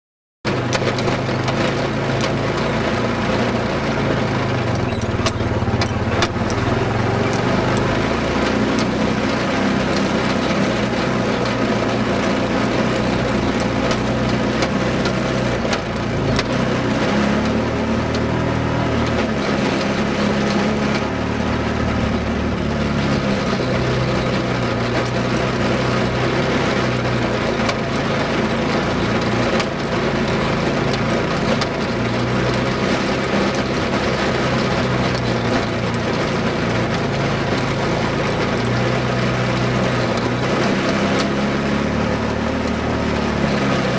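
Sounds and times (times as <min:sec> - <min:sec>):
atv engine revving: 0:00.5 - 0:43.9.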